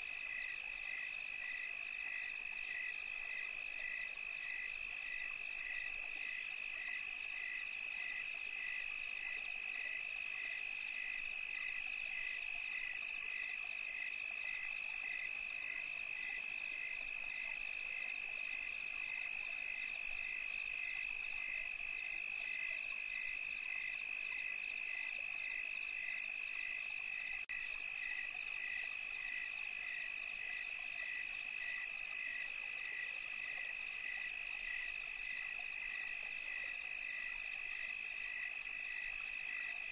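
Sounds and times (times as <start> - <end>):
high-pitched insect trill: 0.0 - 39.9
pulsing lower insect call: 0.0 - 39.9.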